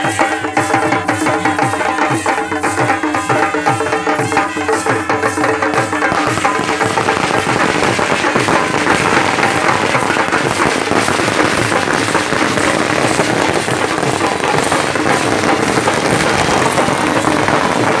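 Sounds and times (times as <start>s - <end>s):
barrel drums beaten fast: 0.0s - 18.0s.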